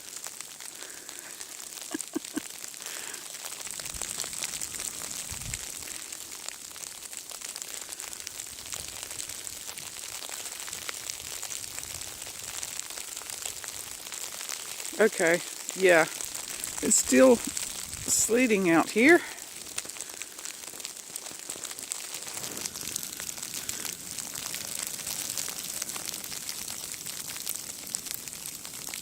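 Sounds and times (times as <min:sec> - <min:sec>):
sleet pattering on snow: 0:00.0 - 0:29.0.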